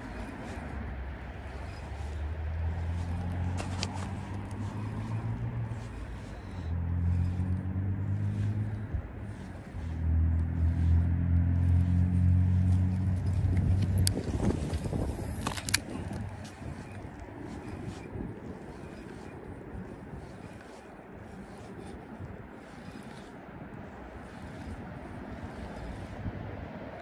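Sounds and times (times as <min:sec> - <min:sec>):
deep motor hum: 0:00.0 - 0:26.9
handling clicks and scrapes: 0:00.0 - 0:27.0.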